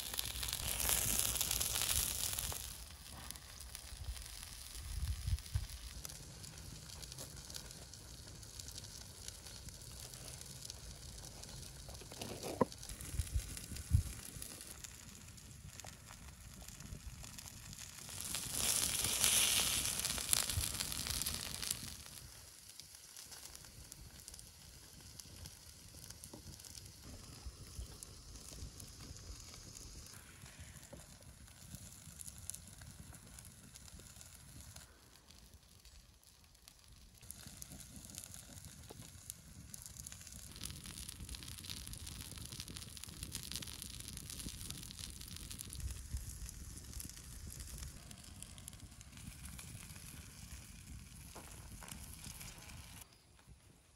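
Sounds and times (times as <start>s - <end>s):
burger patties sizzling: 0.0s - 34.6s, 37.2s - 53.1s
wood fire crackling: 0.0s - 53.9s.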